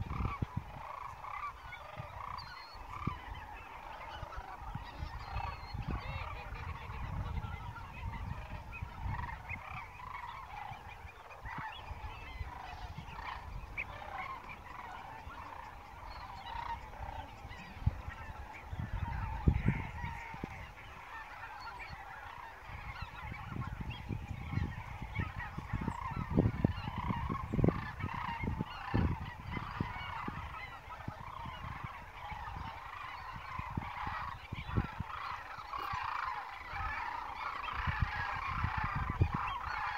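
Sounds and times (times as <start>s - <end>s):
flock of waterfowl calling: 0.0s - 39.9s.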